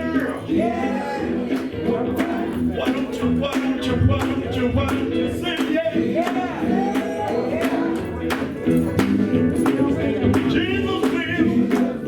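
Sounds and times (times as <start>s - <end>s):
gospel band and singers: 0.0s - 12.0s.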